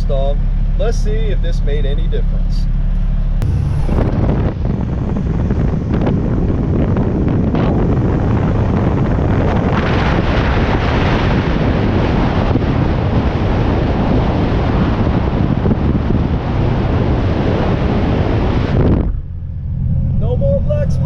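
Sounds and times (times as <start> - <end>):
diesel truck engine running: 0.0 - 21.0
road noise: 0.0 - 21.0
wind buffeting microphone: 2.8 - 21.0.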